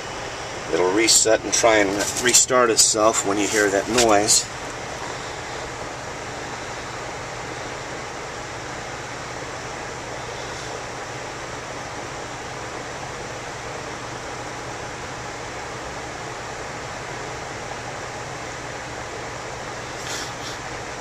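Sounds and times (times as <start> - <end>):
heat pump low hum: 0.0 - 21.0.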